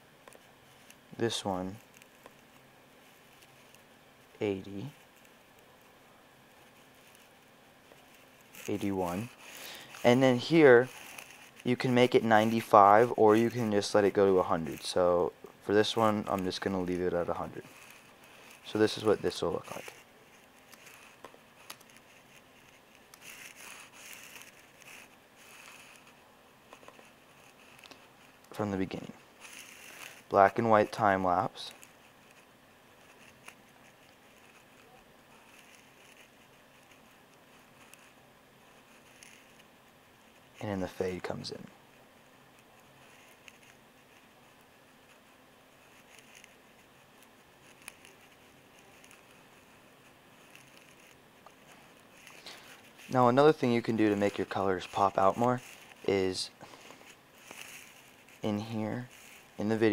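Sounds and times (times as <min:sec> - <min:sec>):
faint background hiss: 0:00.0 - 0:59.9.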